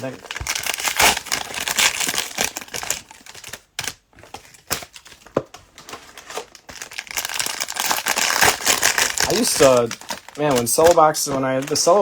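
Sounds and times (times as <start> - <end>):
cellophane wrappers crinkling: 0.0 - 12.0.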